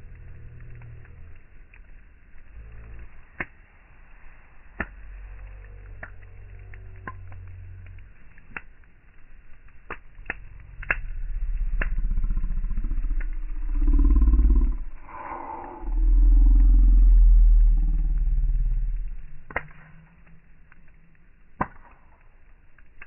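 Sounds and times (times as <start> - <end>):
campfire logs crackling: 0.0 - 23.0
low rumble: 0.0 - 23.0.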